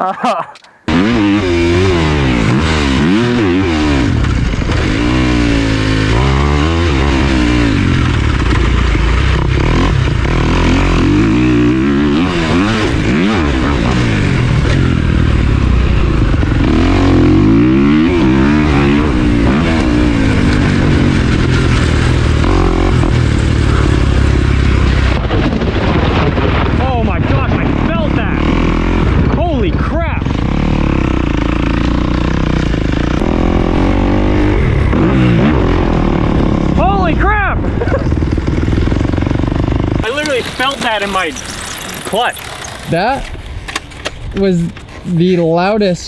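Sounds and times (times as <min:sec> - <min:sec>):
motorbike engine revving: 0:00.6 - 0:45.4.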